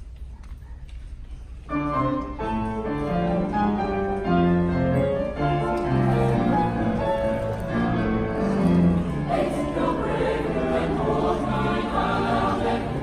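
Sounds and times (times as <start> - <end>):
keyboard playing sustained chords: 1.8 - 13.0.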